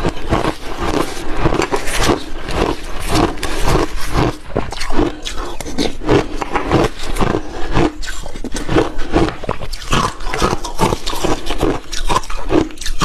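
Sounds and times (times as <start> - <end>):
chewing crunchy shaved ice: 0.0 - 13.0.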